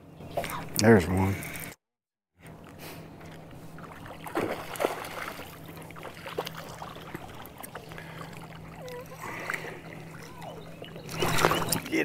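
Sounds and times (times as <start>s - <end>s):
boat motor hum: 0.0s - 1.8s, 2.4s - 12.0s.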